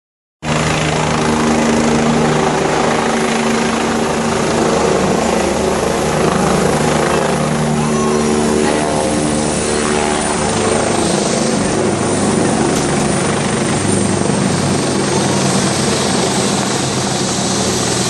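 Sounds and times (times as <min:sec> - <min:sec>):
helicopter engine whine: 0:00.4 - 0:18.0
helicopter rotor beating: 0:00.4 - 0:18.0.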